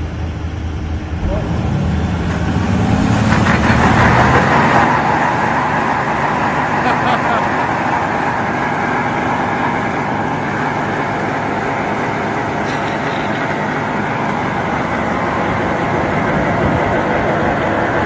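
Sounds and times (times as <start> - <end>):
pickup truck burnout: 0.0 - 18.0.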